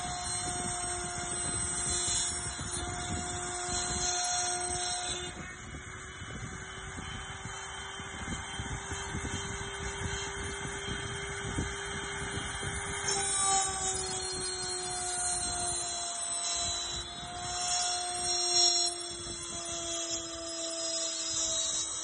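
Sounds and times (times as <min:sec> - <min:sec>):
cutter milling wood: 0:00.0 - 0:22.0
router spindle whine: 0:00.0 - 0:22.0.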